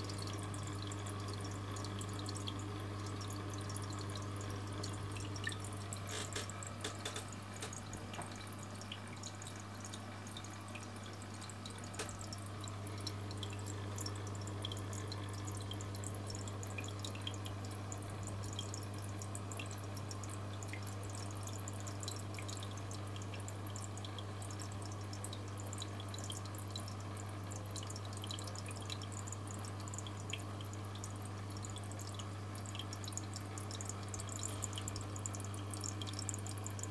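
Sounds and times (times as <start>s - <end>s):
aquarium water trickling and bubbling: 0.0s - 36.9s
low pump hum: 0.0s - 36.9s.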